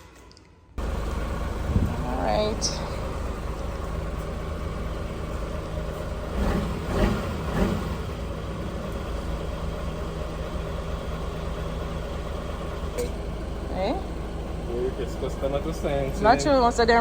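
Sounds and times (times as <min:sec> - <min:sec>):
truck engine idling: 0:00.8 - 0:17.0.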